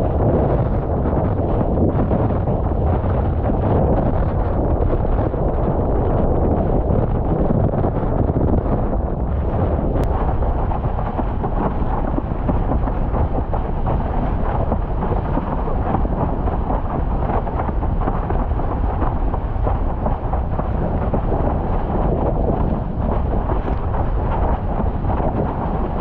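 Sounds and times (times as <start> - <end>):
water rushing under board: 0.0 - 26.0
wind buffeting microphone: 0.0 - 26.0.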